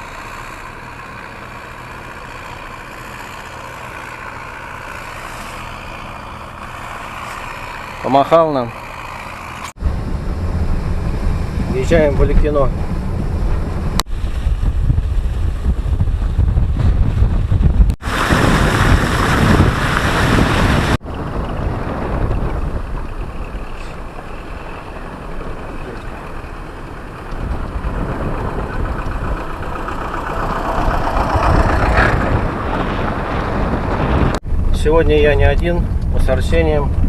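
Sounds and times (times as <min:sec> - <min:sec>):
car road rumble: 0:00.0 - 0:37.0.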